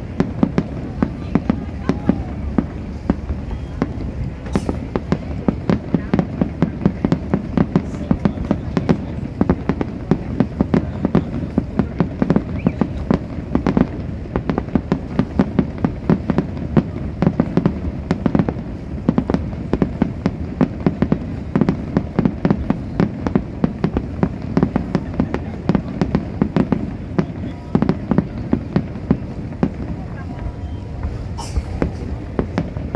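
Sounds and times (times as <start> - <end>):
fireworks bangs and cracks: 0.0 - 32.9
low rumble: 0.0 - 32.9.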